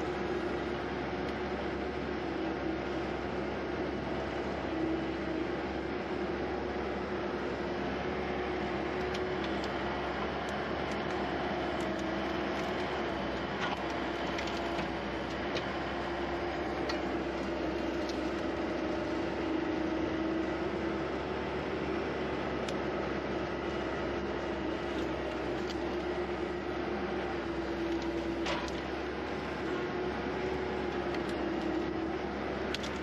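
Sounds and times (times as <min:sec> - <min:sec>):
skid steer engine humming: 0:00.0 - 0:33.0.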